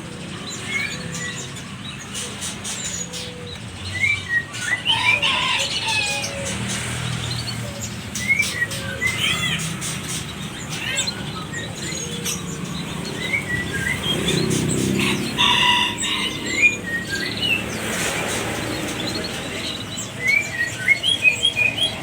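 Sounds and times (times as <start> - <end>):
harsh rasping bird call: 0.0 - 22.0
songbirds chirping and whistling: 0.0 - 22.0.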